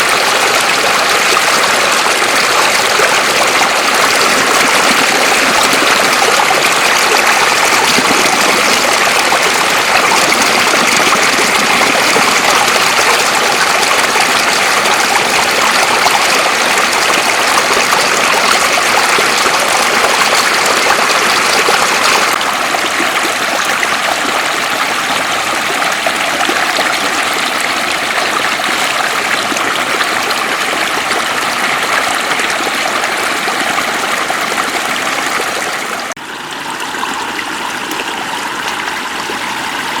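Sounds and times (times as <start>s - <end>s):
floodwater rushing over road: 0.0s - 40.0s.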